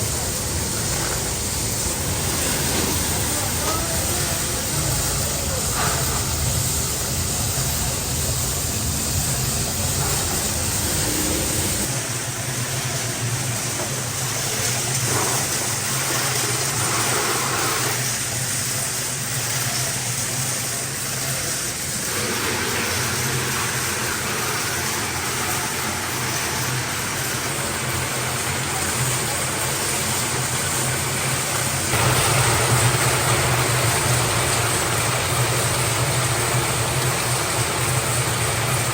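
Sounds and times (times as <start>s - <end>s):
workshop machinery humming: 0.0s - 38.9s.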